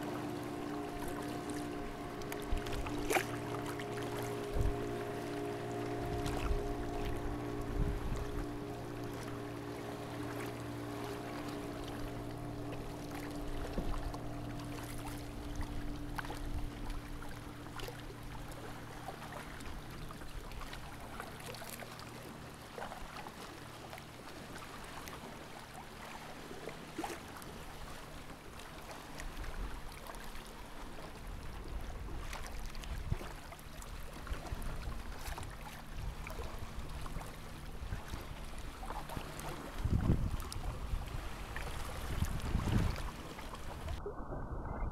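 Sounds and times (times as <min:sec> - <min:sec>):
kayak paddle strokes: 0:00.0 - 0:25.4, 0:26.0 - 0:44.0
water splashing and lapping: 0:00.0 - 0:44.9.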